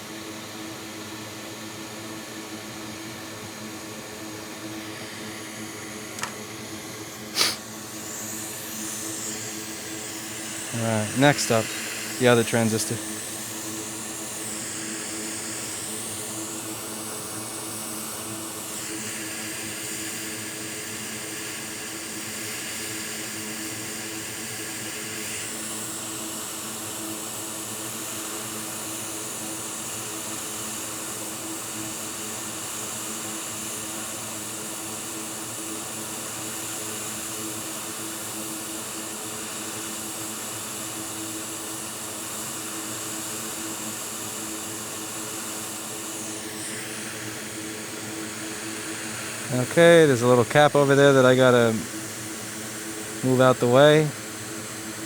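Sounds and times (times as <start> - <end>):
hot air station blowing air: 0.8 - 31.8, 36.4 - 55.0.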